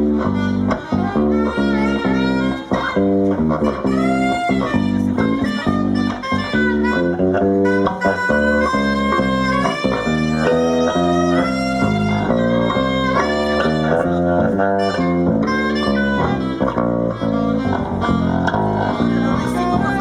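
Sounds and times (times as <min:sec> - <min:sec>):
jazz band solo line: 0:00.0 - 0:20.0
walking bass: 0:00.0 - 0:20.0.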